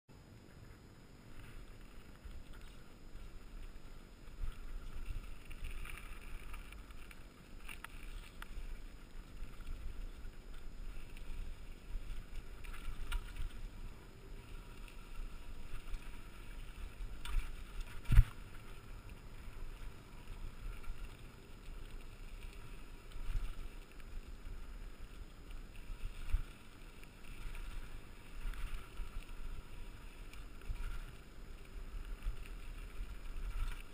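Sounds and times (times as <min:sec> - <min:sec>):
bike tyres rumbling on dirt: 0:00.2 - 0:33.9
bike rattling over rocks: 0:01.4 - 0:33.9.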